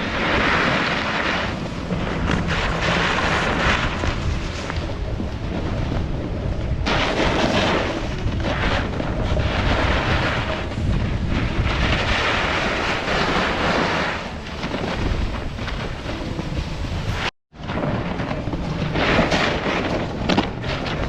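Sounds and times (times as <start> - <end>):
snowboard scraping over snow: 0.0 - 21.0
wind buffeting microphone: 0.0 - 21.0.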